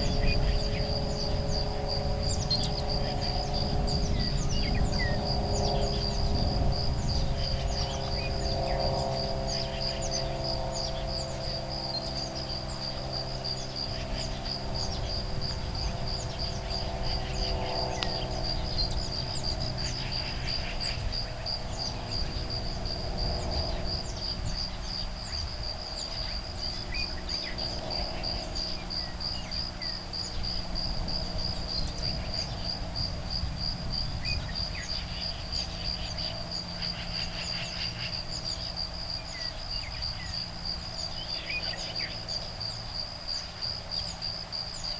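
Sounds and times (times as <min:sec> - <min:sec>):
breeze rumble: 0:00.0 - 0:44.9
crickets chirping: 0:00.0 - 0:44.9.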